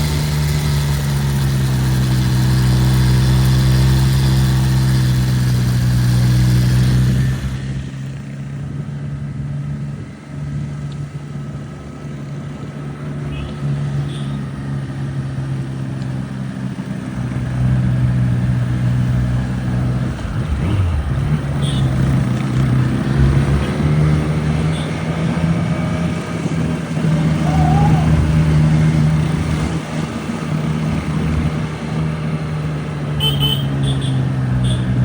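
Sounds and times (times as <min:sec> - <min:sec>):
motorcycle engine running: 0:00.0 - 0:10.0, 0:11.1 - 0:35.0.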